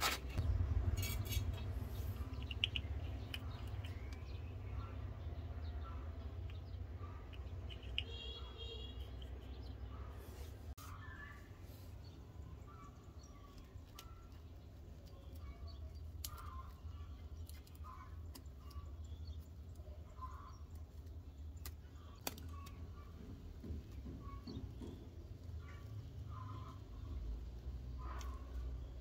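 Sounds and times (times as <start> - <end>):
faint bird chirps: 0.4 - 23.1, 25.6 - 29.0.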